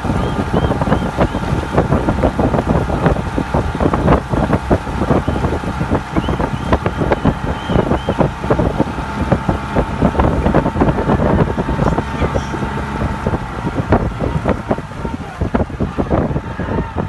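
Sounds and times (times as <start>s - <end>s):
engine hum: 0.0s - 17.0s
wind buffeting microphone: 0.0s - 17.0s.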